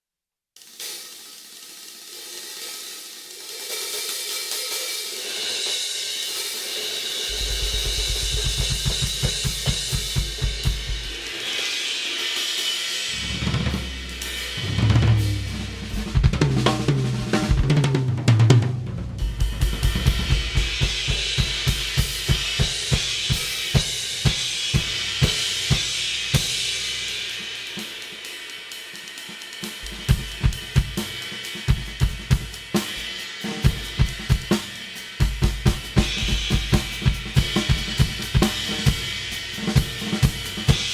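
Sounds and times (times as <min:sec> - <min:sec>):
hi-hat and cymbals wash: 0:00.6 - 0:17.6, 0:19.3 - 0:40.9
drum kit groove: 0:00.6 - 0:40.9.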